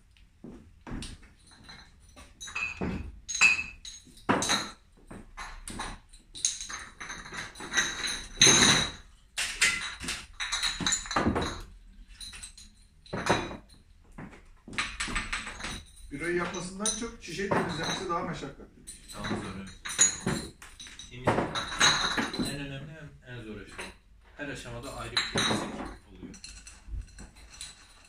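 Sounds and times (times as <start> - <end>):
glass bottles knocking and clinking: 0.4 - 28.0.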